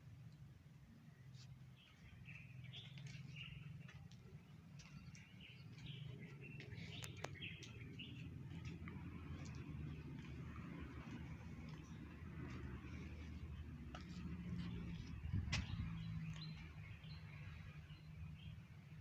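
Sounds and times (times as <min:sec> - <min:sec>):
small birds chirping: 0:01.0 - 0:19.0.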